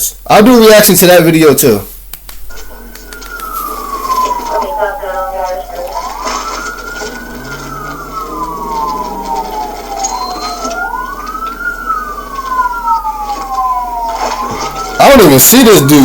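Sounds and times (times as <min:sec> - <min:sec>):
police sirens wailing: 0:02.5 - 0:16.0.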